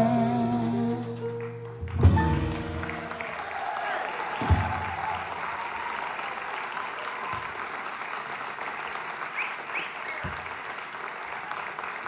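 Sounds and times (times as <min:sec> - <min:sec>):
audience applauding: 0:01.3 - 0:12.0.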